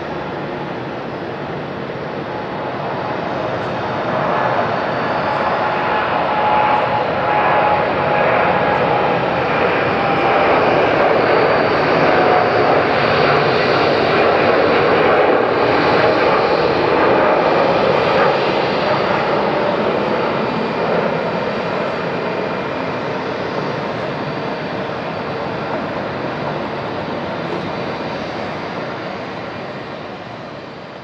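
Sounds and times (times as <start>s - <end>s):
jet airliner taking off: 0.0s - 31.0s.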